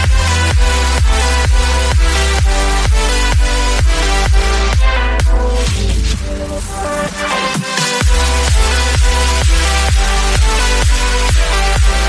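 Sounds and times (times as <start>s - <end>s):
kick drum thumps: 0.0s - 6.4s, 8.0s - 12.0s
sustained synth chords: 0.0s - 7.3s, 8.0s - 12.0s
electronic dance music: 0.0s - 12.0s.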